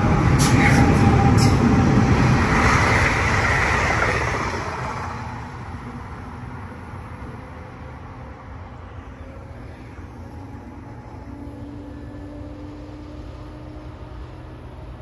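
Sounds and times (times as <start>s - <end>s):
passing train rail noise: 0.0s - 15.0s.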